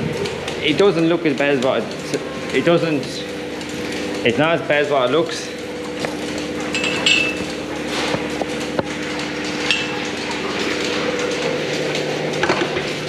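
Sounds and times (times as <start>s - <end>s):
milking machine drone: 0.0s - 13.0s.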